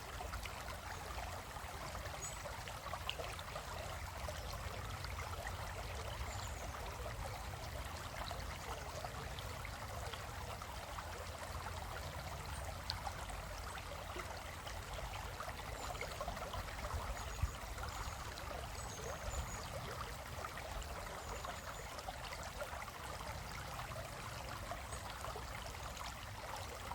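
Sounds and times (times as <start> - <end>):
stream flowing over rocks: 0.0 - 26.9.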